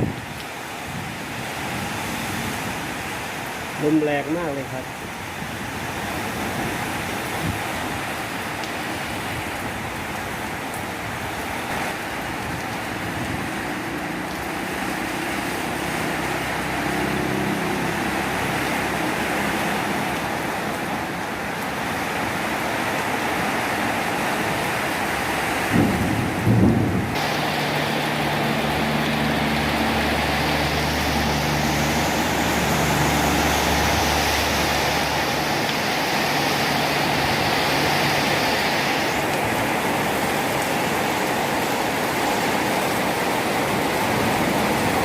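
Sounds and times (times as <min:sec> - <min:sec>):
heavy rain pouring: 0:00.0 - 0:45.0
strong wind: 0:00.0 - 0:45.0.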